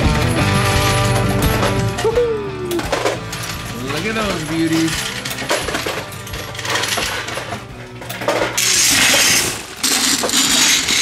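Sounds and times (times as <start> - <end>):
metal cartridges clinking and rattling: 0.0 - 11.0.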